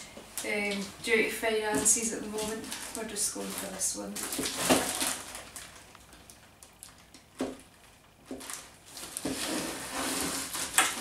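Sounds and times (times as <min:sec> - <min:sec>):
packing peanuts rustling: 0:01.7 - 0:11.0.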